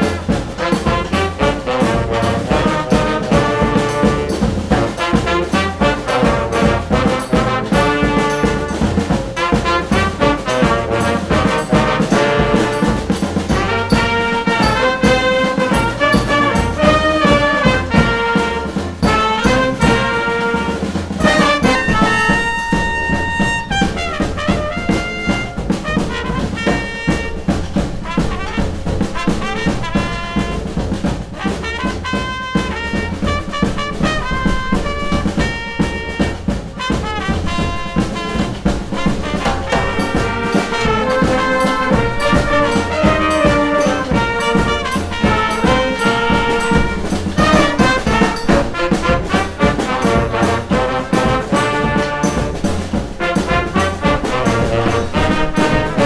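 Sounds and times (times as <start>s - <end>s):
brass band playing upbeat tune: 0.0s - 56.0s.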